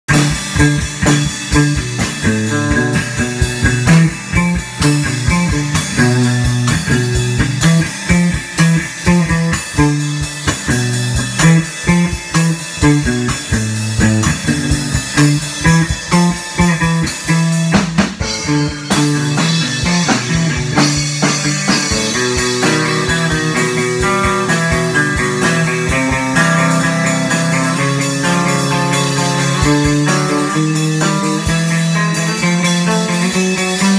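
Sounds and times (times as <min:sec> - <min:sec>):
drum kit rock beat: 0:00.0 - 0:33.9
low guitar riff: 0:00.1 - 0:33.9.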